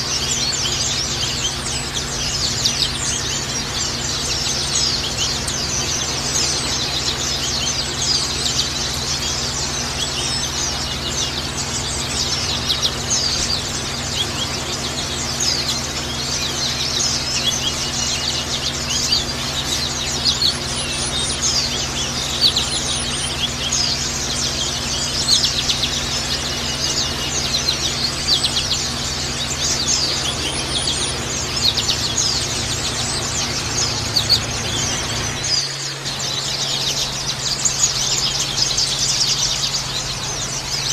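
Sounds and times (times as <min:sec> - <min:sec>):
bird twittering: 0:00.0 - 0:40.9
steady low hum: 0:00.0 - 0:40.9.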